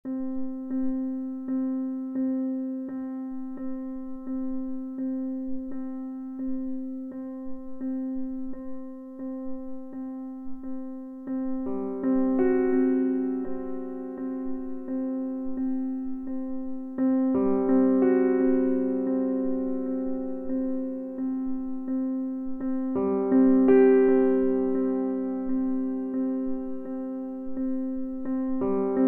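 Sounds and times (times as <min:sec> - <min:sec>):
ambient electric piano music: 0:00.0 - 0:29.0.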